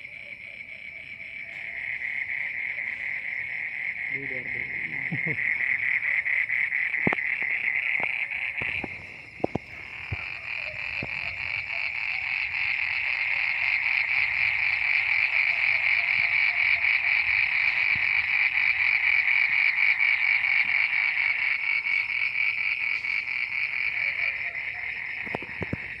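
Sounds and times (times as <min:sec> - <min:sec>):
chorus of frogs calling: 0:00.0 - 0:26.0.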